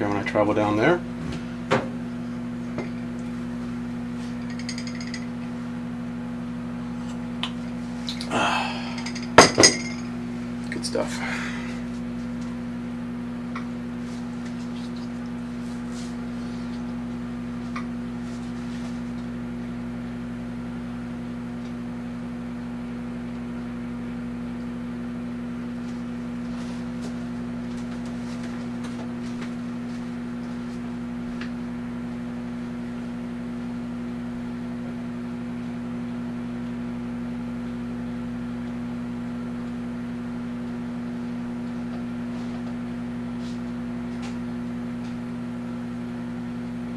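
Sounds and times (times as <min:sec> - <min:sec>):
microwave oven humming: 0:00.0 - 0:46.9.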